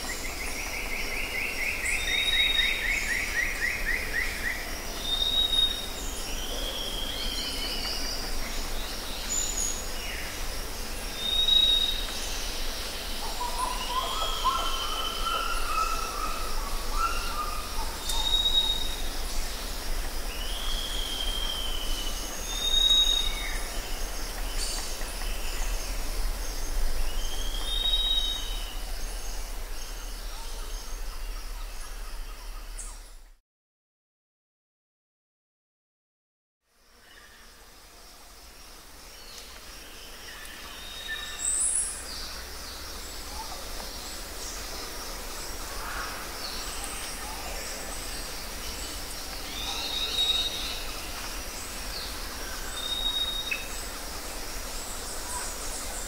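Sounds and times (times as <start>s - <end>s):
faint steady hiss: 0.0s - 33.2s, 36.7s - 56.0s.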